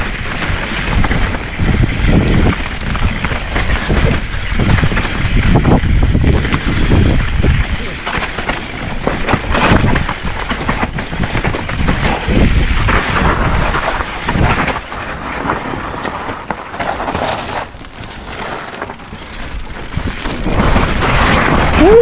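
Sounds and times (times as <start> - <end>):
bike rattling and knocking: 0.0 - 22.0
bike tyres rumbling over rock: 0.0 - 22.0
wind buffeting microphone: 0.0 - 22.0.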